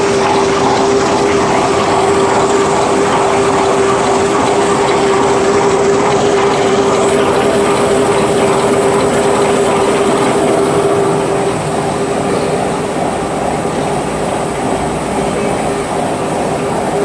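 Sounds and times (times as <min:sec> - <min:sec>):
machine running with hum: 0:00.0 - 0:17.0.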